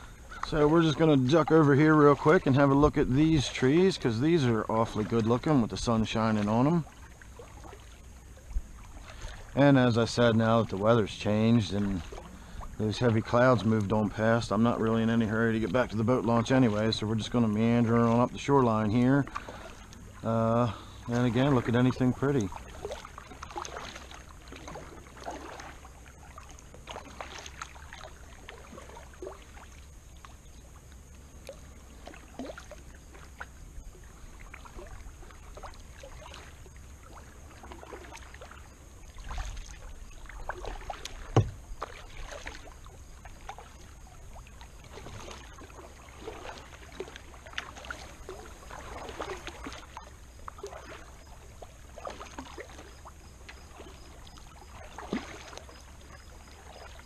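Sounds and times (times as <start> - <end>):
paddle splashing through water: 0.0 - 57.0.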